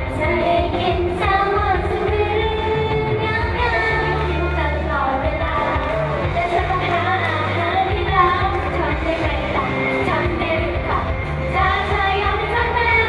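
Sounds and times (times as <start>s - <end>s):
girl singing pop song: 0.0s - 13.0s
loud bass beat: 0.0s - 13.0s.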